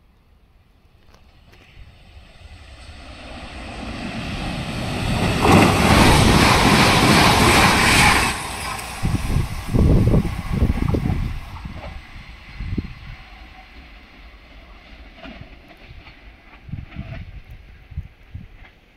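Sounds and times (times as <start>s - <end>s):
train passing at speed: 0.0s - 18.9s
wind buffeting microphone: 1.6s - 14.0s, 14.8s - 18.9s.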